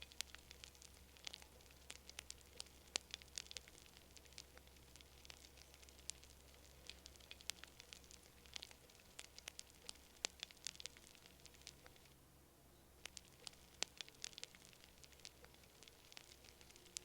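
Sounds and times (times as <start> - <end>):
bonfire crackling: 0.0 - 12.2, 12.9 - 17.0.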